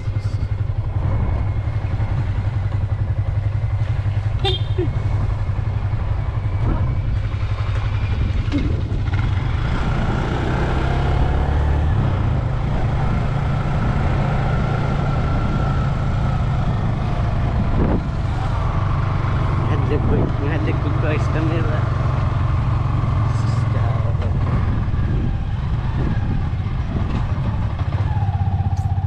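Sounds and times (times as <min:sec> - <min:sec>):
wind rumble on microphone: 0:00.0 - 0:03.5, 0:04.8 - 0:21.5, 0:23.3 - 0:29.0
motorcycle engine running: 0:00.0 - 0:29.0.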